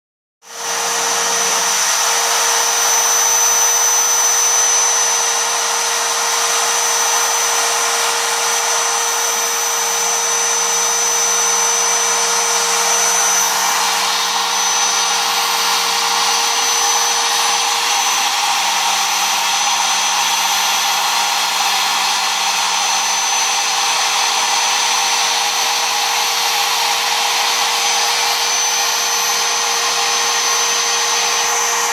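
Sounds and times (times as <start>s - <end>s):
stepper motor whining tones: 0.4s - 31.9s
machine motor whir: 0.5s - 31.9s.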